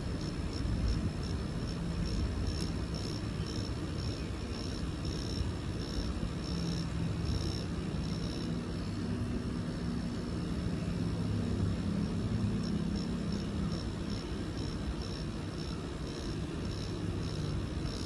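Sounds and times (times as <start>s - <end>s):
tattoo machine humming: 0.0s - 9.1s, 11.0s - 18.0s.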